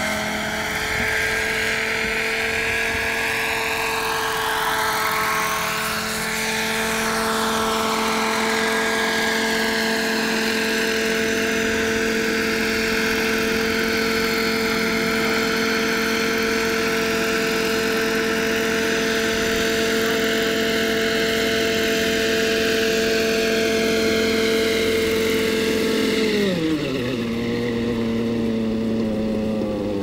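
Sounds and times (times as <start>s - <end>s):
model helicopter engine and rotors: 0.0s - 30.0s.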